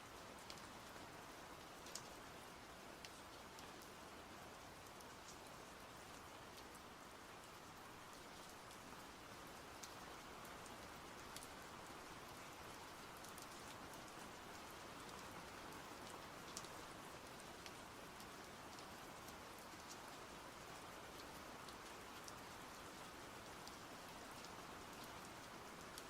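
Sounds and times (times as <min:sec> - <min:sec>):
faint steady rain: 0:00.0 - 0:26.0.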